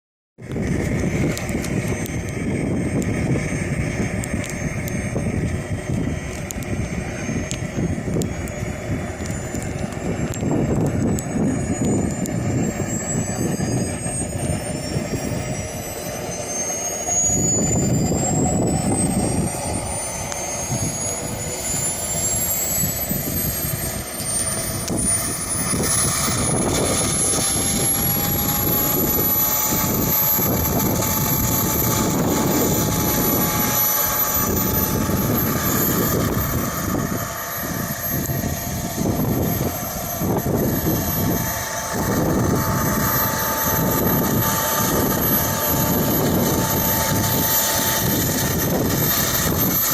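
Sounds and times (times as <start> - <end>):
jet turbine whine rising: 0.4 - 49.9.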